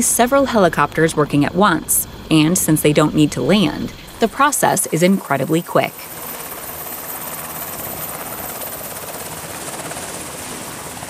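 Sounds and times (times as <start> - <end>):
helicopter rotor and turbine: 0.0 - 11.0.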